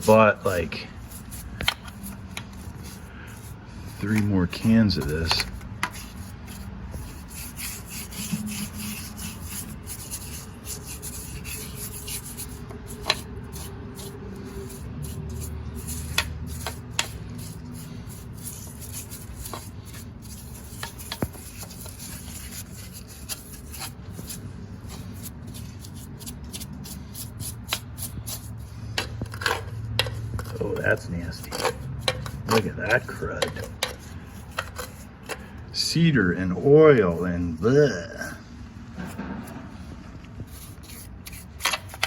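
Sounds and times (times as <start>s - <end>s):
rubbing and scrubbing: 0.0s - 42.0s.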